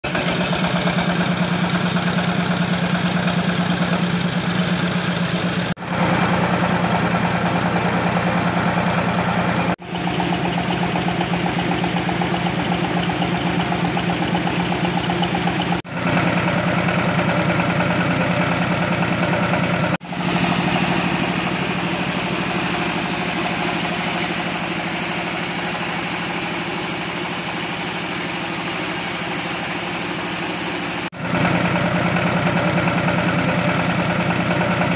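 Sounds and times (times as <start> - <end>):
huller machine droning: 0.0 - 34.9.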